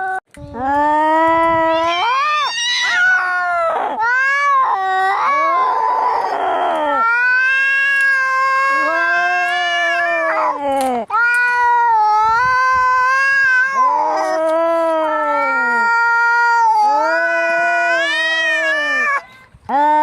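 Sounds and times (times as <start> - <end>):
cats yowling and fighting: 0.0 - 19.5.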